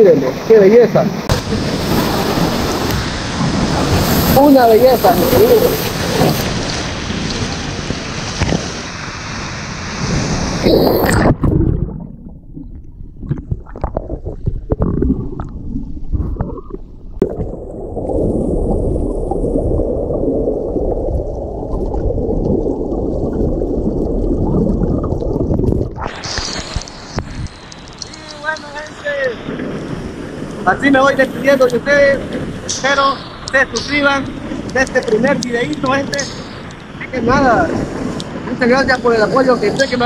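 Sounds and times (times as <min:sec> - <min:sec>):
water gurgling and splashing: 0:00.0 - 0:40.0.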